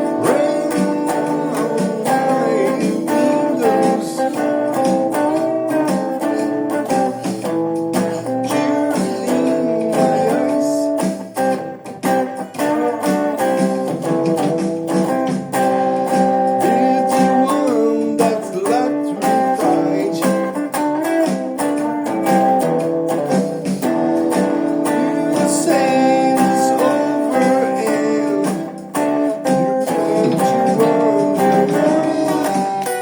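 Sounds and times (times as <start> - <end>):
guitar plucking quick notes: 0.0 - 33.0.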